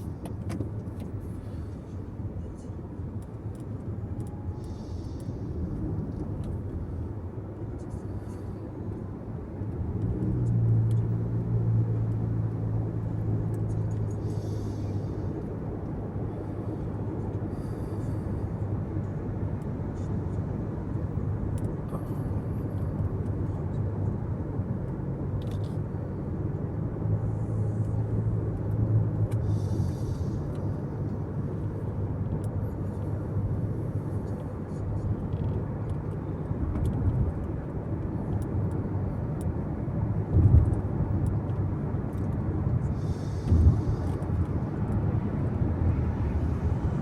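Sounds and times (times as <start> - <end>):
road and engine rumble in car: 0.0 - 47.0.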